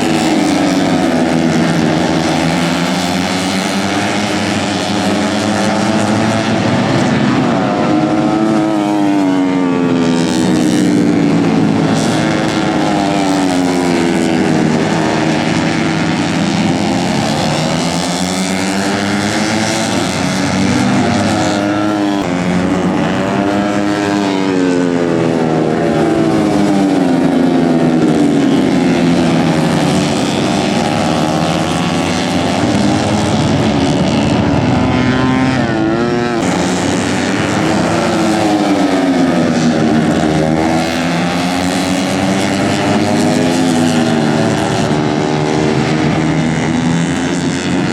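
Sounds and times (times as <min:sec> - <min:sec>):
motorcycle engines revving: 0:00.0 - 0:47.9.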